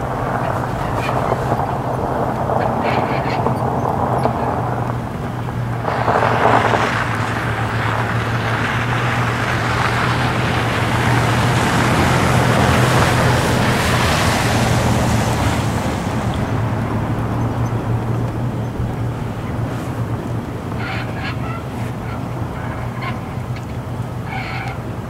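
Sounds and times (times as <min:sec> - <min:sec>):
car tyres on slushy road: 0:00.0 - 0:25.0
steady low hum: 0:00.0 - 0:25.0.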